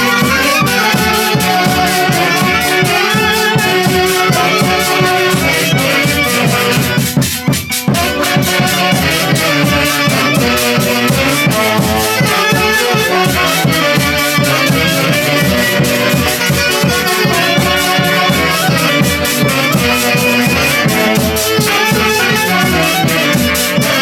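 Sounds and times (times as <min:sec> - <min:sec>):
festive dance music orchestra: 0:00.0 - 0:24.0.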